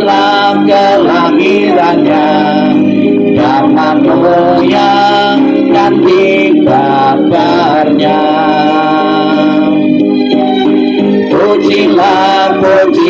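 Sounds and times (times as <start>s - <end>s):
group singing a hymn: 0.0s - 10.0s, 11.3s - 13.0s
organ-like accompaniment: 0.0s - 13.0s.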